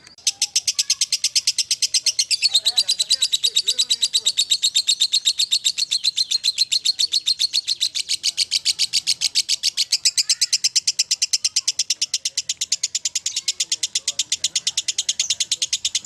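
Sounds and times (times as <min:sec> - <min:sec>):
lovebird rapid high chatter: 0:00.0 - 0:16.0.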